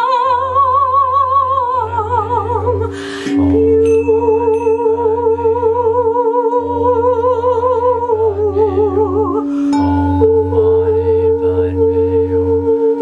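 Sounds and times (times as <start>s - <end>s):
singing bowl low tone: 0.0s - 13.0s
singing bowl wavering high tone: 0.0s - 13.0s.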